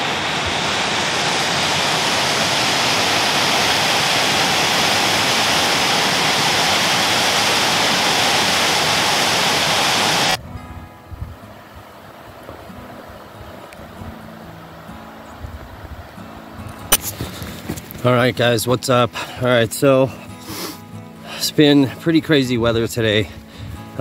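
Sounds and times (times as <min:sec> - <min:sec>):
fast-flowing mountain stream: 0:00.0 - 0:10.4, 0:11.4 - 0:21.9.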